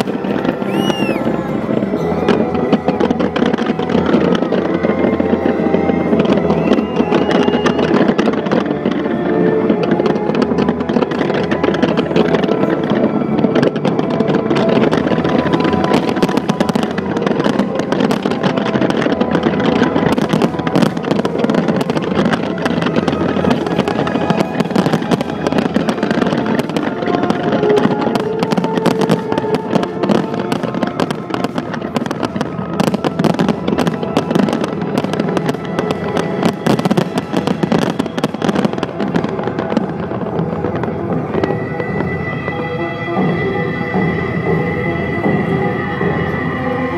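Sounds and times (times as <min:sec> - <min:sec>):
fireworks crackling: 0:00.0 - 0:46.9
music playing: 0:00.0 - 0:46.9.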